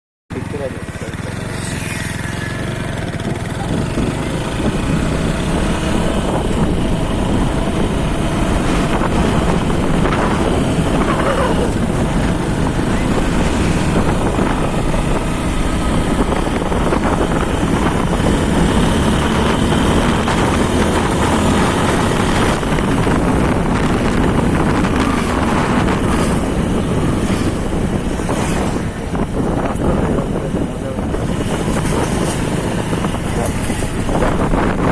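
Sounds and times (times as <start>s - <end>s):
motorcycle engine running: 0.3s - 34.9s
wind buffeting microphone: 0.6s - 34.9s.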